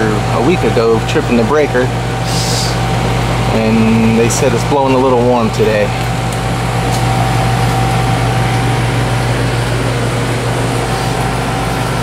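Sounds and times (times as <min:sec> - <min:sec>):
compressor hum: 0:00.0 - 0:12.0
condenser fan rushing: 0:00.0 - 0:12.0.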